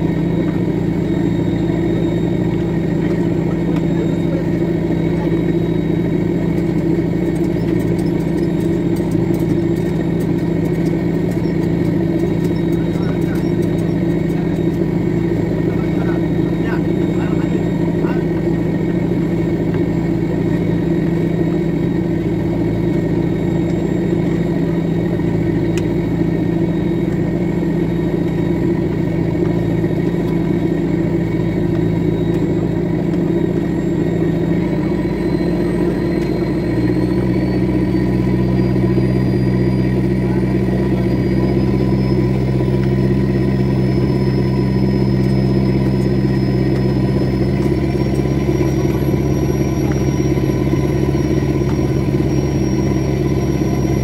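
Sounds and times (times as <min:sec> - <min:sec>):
boat engine droning: 0:00.0 - 0:54.0
faint high whine: 0:00.0 - 0:54.0.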